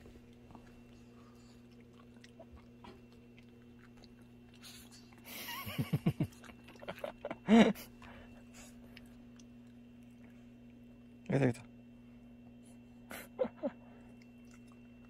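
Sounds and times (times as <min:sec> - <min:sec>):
dogs chewing and crunching treats: 0:00.0 - 0:12.8, 0:13.8 - 0:15.0.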